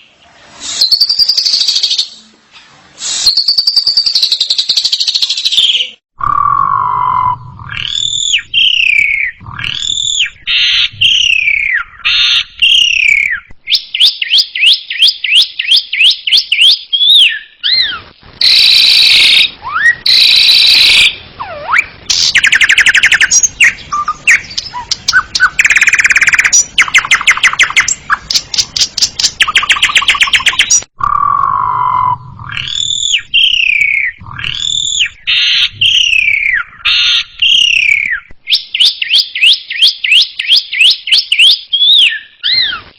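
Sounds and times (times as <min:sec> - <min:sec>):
starling singing: 0:03.4 - 0:42.8.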